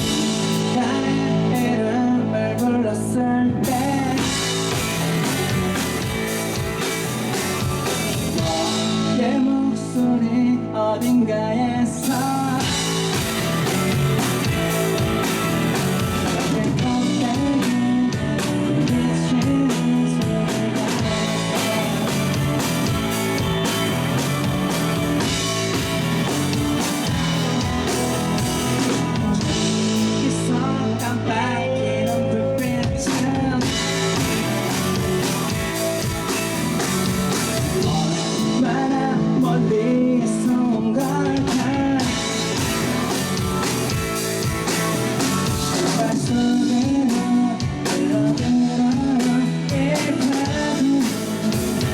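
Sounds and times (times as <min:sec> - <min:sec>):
drum kit beat: 0:00.0 - 0:02.0, 0:03.6 - 0:09.4, 0:12.0 - 0:31.2, 0:32.1 - 0:39.6, 0:41.0 - 0:51.9
person singing: 0:00.0 - 0:43.4, 0:44.7 - 0:51.9
electric guitar: 0:00.0 - 0:51.9.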